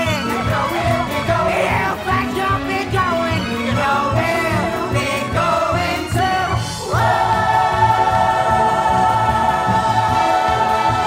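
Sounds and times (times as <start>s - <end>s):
pit orchestra: 0.0s - 11.0s.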